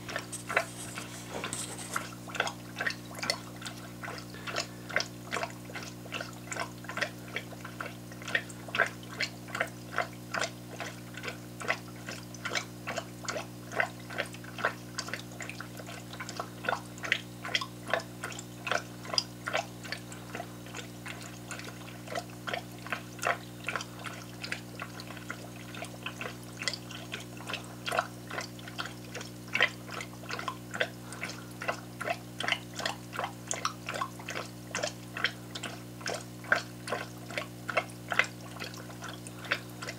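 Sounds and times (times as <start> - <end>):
aquarium air bubbler gurgling: 0.0 - 39.9.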